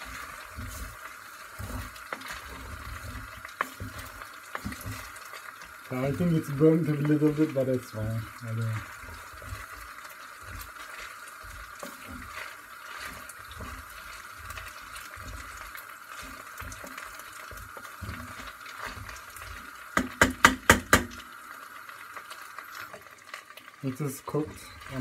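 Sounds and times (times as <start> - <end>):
gas flame hissing: 0.0 - 23.0
pasta stirred in a metal pot: 0.0 - 25.0.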